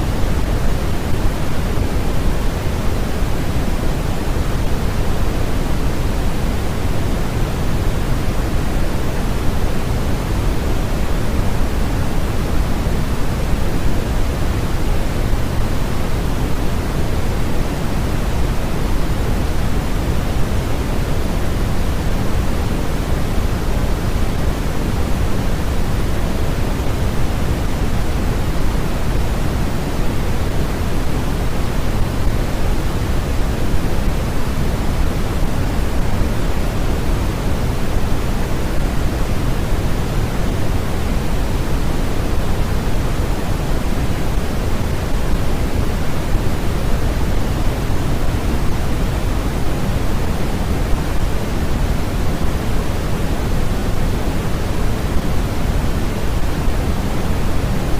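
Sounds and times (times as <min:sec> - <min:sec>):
deep pink noise hiss: 0:00.0 - 0:57.9.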